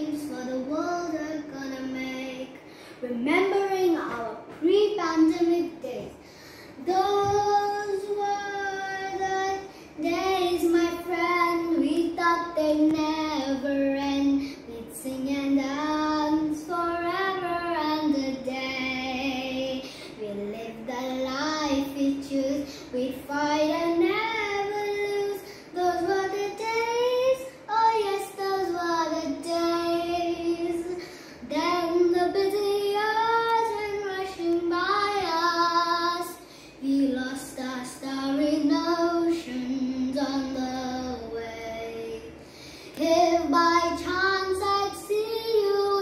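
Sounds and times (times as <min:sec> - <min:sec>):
girl singing: 0:00.0 - 0:46.0.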